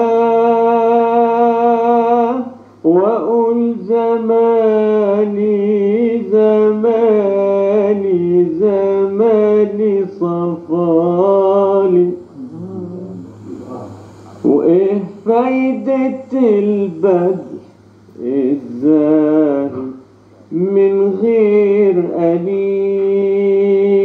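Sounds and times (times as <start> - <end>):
man singing ornamented melody: 0.0 - 13.8, 14.4 - 24.0.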